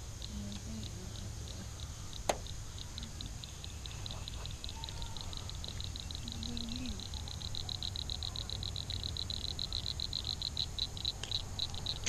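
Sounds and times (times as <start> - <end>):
frog calling with clicking notes: 0.1 - 12.0.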